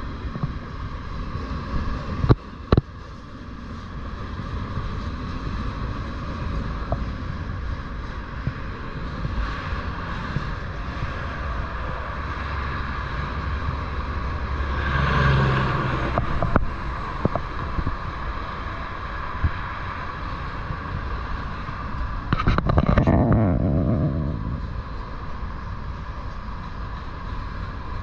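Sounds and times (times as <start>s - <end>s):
steel wheels rumbling on rail: 0.0s - 28.0s.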